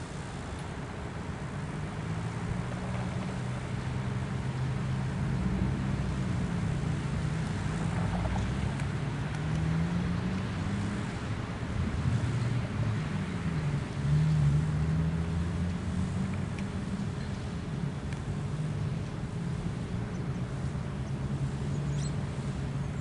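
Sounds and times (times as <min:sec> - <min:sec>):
engine running low: 0:00.0 - 0:23.0
rushing outdoor noise: 0:00.0 - 0:23.0.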